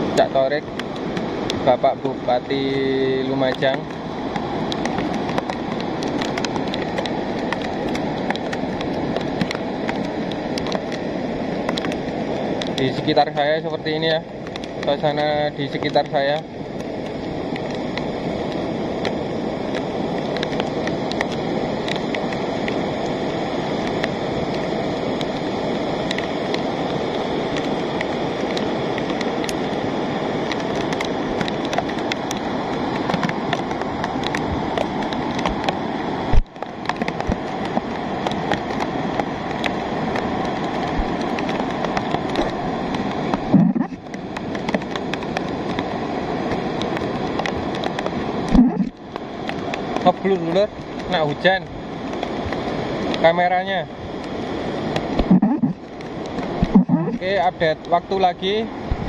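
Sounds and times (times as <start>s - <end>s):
mudflow rushing down channel: 0.0s - 59.0s
rain: 0.0s - 59.0s
raindrops ticking on phone: 0.1s - 2.2s, 2.8s - 11.0s, 11.6s - 23.1s, 23.8s - 29.8s, 30.4s - 51.4s, 54.1s - 58.6s.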